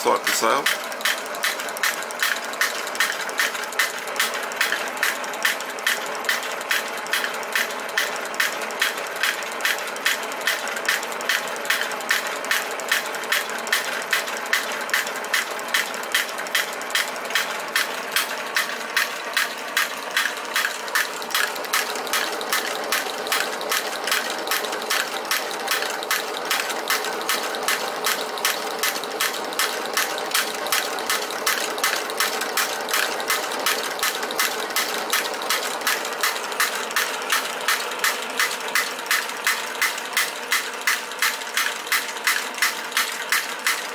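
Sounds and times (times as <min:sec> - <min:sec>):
toy hammer clacking: 0:00.0 - 0:43.9.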